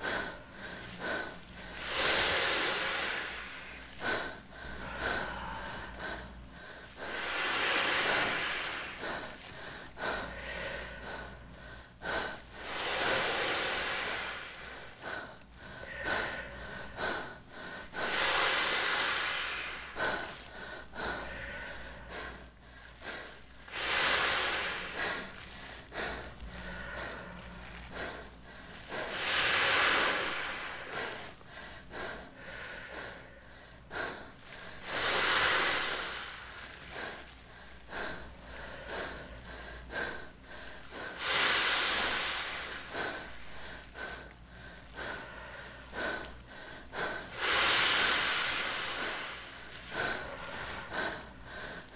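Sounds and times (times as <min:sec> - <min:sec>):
quiet breathing: 0:00.0 - 0:51.9.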